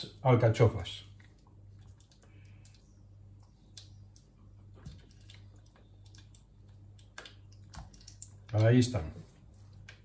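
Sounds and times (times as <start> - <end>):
soft clicks and wet taps: 1.1 - 10.0.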